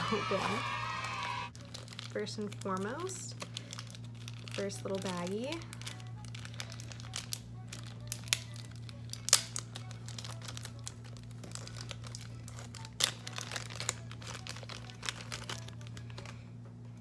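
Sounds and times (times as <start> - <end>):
plastic bag crinkling: 0.0 - 16.4.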